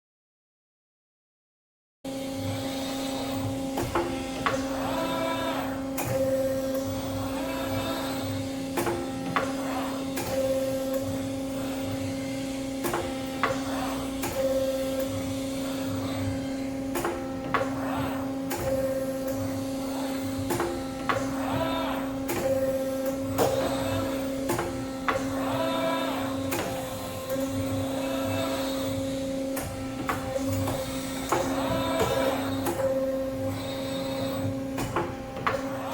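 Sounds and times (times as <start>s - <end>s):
machine hum with whines: 2.1s - 35.9s
tooling clicks and knocks: 6.0s - 35.9s.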